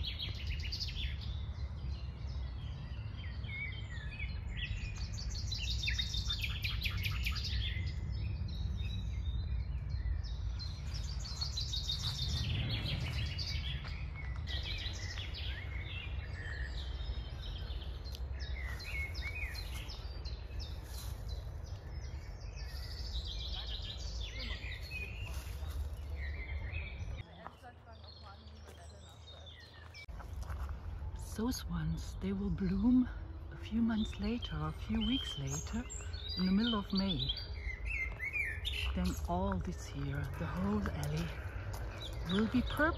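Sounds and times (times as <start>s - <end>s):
steady low rumble: 0.0s - 24.3s, 30.0s - 42.9s
songbirds trilling: 0.0s - 42.9s.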